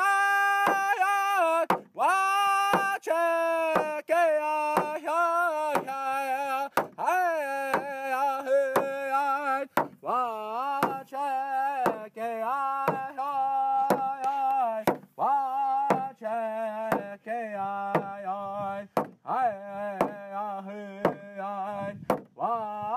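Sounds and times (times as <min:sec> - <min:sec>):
man singing long held notes: 0:00.0 - 0:22.9.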